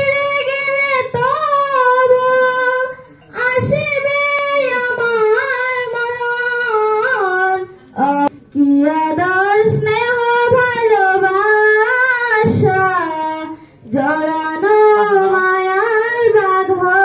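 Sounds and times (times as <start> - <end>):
woman singing into microphone: 0.0 - 17.0.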